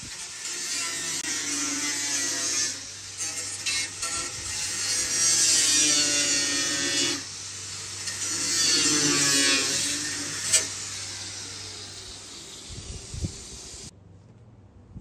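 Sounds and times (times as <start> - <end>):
angle grinder cutting sheet steel: 0.0 - 13.9.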